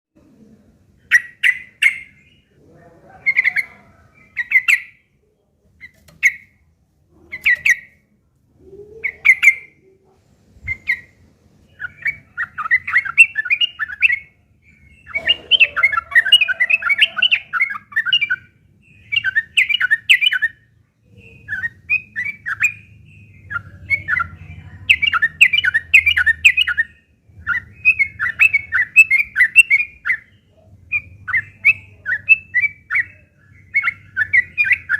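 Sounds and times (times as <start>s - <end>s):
bulbul calling and chattering: 0.9s - 34.9s.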